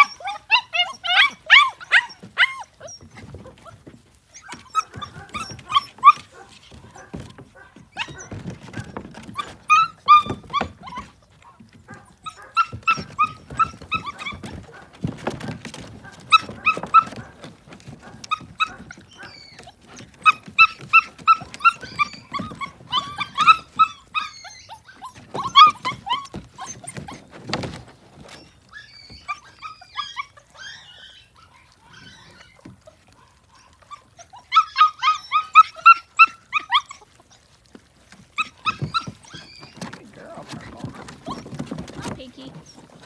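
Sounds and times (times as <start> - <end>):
puppies whining and yelping: 0.0 - 43.0.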